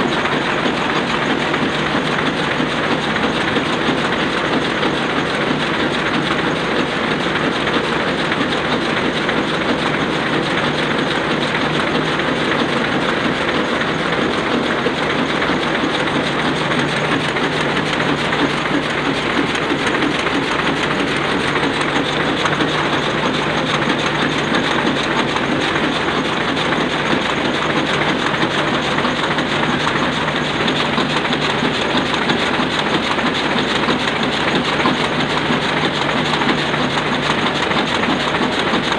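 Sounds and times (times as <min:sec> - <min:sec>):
printing press clattering: 0:00.0 - 0:38.9.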